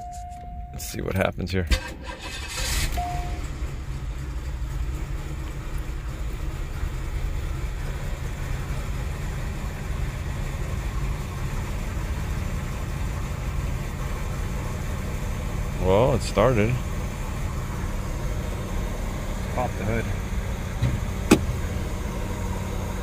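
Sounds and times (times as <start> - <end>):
car engine idling: 0.0 - 23.0
car engine starting: 0.0 - 23.0.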